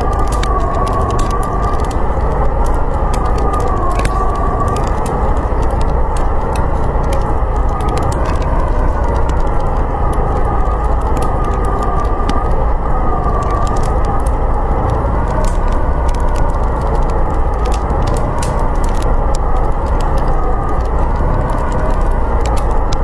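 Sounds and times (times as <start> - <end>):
blizzard wind howling: 0.0 - 23.0
wood fire crackling and popping: 0.0 - 23.0.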